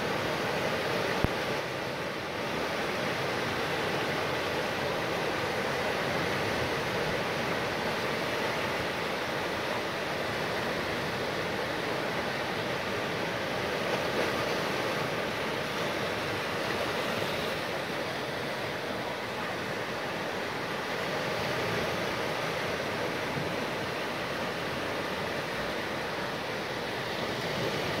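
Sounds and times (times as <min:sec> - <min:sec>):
small waves breaking on shore: 0:00.0 - 0:28.0.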